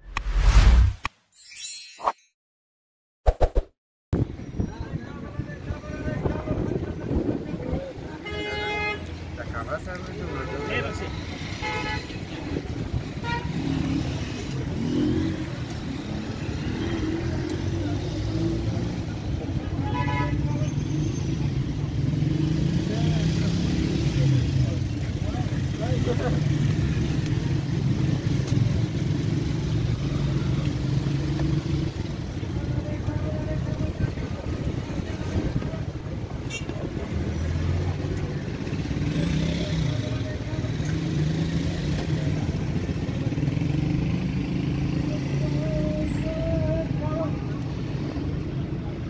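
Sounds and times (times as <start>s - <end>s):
street traffic rumbling: 4.2s - 49.0s.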